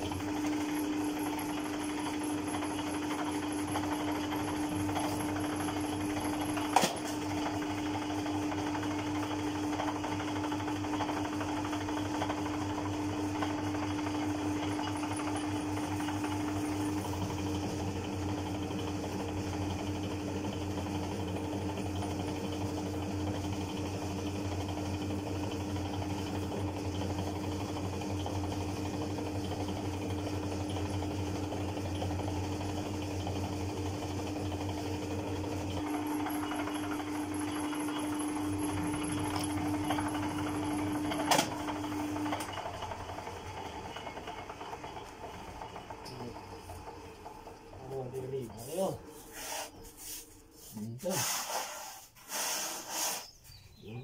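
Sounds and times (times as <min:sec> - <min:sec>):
dough roller machine humming: 0:00.0 - 0:54.0.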